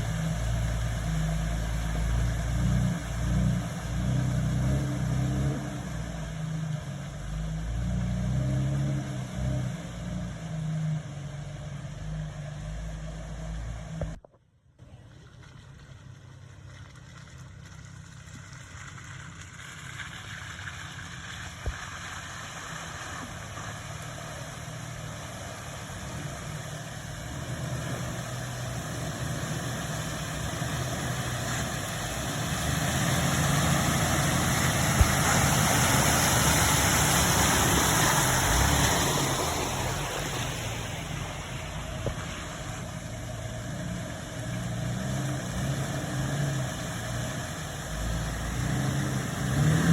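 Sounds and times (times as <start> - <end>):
car engine under load: 0.0 - 49.9.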